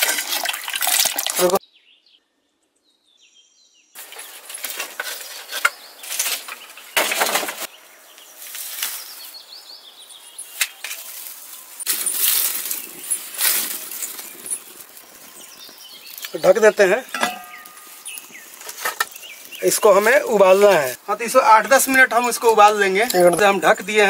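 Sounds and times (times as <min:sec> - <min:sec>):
straw and sticks rustling: 0:04.0 - 0:24.0
wood fire crackling: 0:04.0 - 0:24.0.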